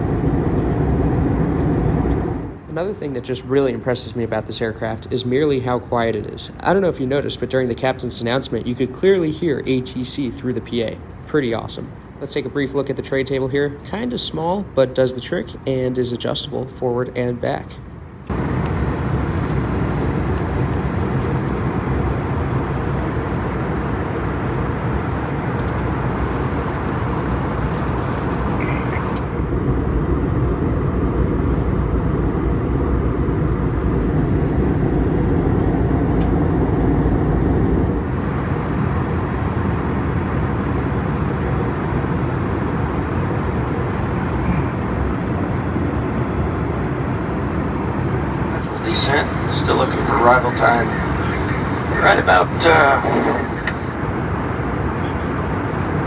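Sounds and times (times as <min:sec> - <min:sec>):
jet engine hum: 0:00.0 - 0:13.9, 0:17.8 - 0:56.0
airflow rush in aircraft cabin: 0:00.0 - 0:14.0, 0:17.9 - 0:56.0.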